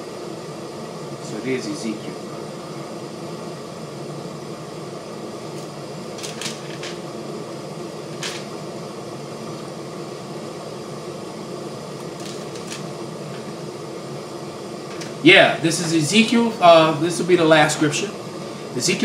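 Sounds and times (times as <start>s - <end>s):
fan-like room hum and hiss: 0.0s - 19.0s.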